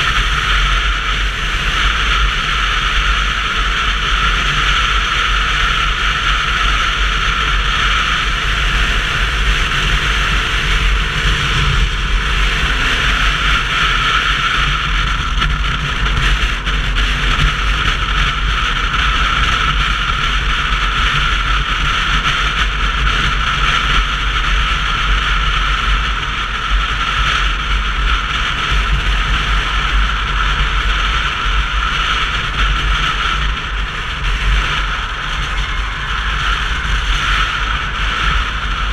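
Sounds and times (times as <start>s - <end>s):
motorcycle road noise: 0.0s - 38.9s
wind buffeting microphone: 0.0s - 38.9s.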